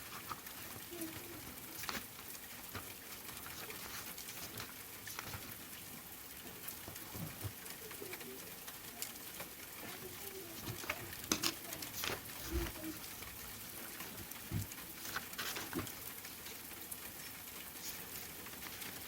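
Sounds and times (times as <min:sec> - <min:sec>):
soft rain hiss: 0:00.0 - 0:19.0.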